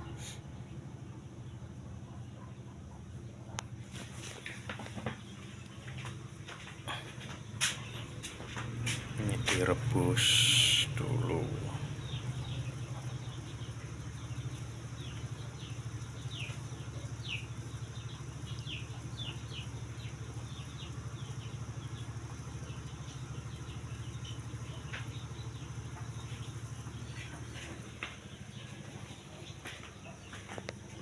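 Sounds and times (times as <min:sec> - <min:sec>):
birds chirping: 0:00.0 - 0:31.0
low mechanical hum: 0:00.0 - 0:31.0.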